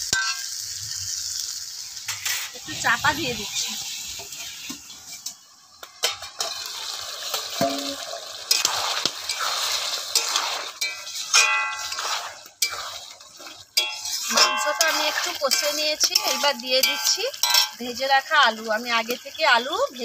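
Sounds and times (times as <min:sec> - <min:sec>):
meat sizzling in a pan: 0:00.0 - 0:20.0
metal spatula scraping pan: 0:00.1 - 0:00.5, 0:02.1 - 0:17.9.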